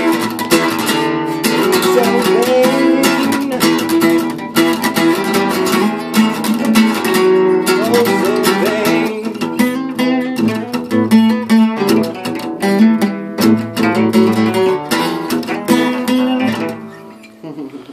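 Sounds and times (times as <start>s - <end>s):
acoustic guitar playing: 0.0s - 17.9s.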